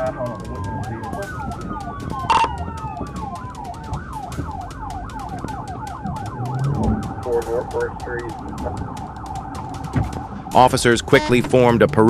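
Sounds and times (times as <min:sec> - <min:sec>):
police siren yelping: 0:00.0 - 0:11.5
steady siren tone: 0:00.0 - 0:11.5.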